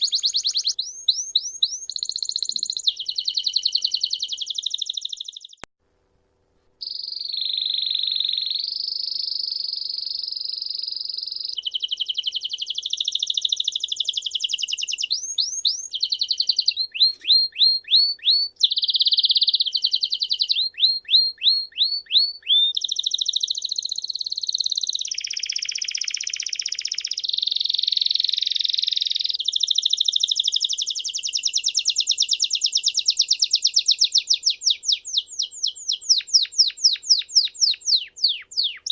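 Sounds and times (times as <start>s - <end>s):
songbirds singing: 0.0s - 5.7s, 6.8s - 38.9s.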